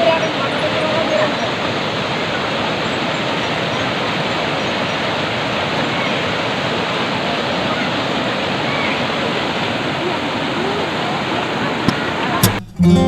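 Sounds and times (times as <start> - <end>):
flowing water rushing: 0.0 - 12.6.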